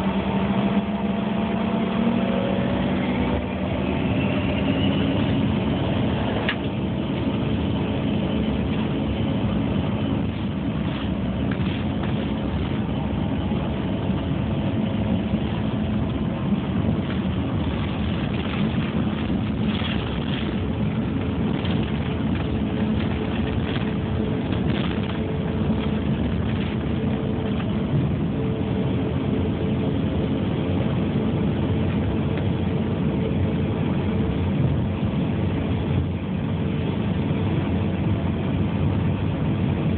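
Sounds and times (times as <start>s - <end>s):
jet engine noise in cabin: 0.0s - 39.9s
steady low hums: 0.0s - 39.9s.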